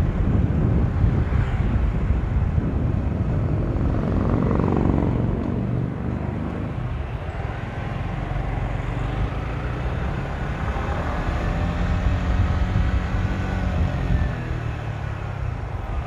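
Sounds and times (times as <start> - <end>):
wind buffeting on microphone: 0.0 - 16.0
motorcycle engine at speed: 0.1 - 16.0.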